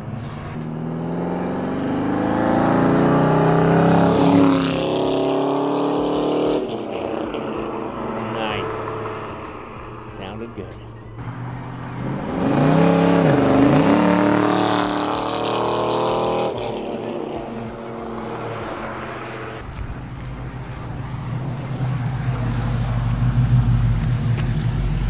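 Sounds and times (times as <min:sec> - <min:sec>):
engine accelerating: 0:00.0 - 0:25.0
low engine rumble: 0:00.0 - 0:25.0.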